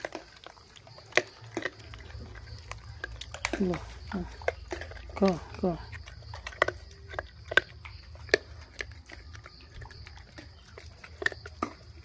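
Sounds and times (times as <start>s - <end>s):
monkeys crunching chickpeas: 0.0s - 12.0s.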